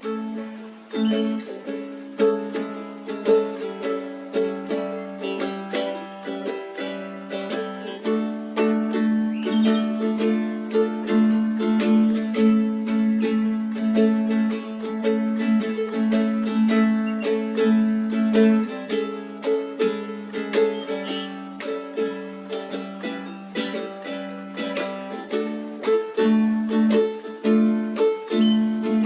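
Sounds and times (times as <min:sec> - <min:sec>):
plucked string instrument: 0:00.0 - 0:29.0.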